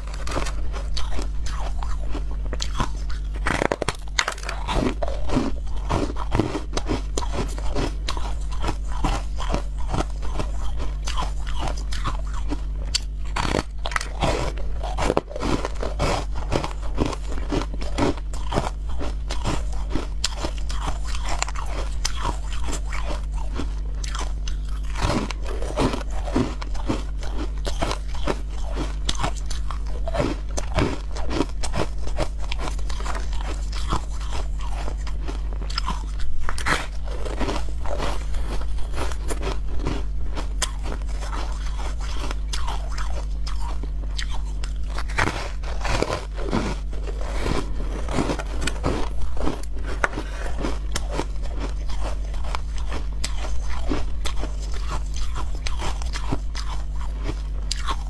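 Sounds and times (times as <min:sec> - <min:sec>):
ice crunching being chewed: 0:00.0 - 0:58.0.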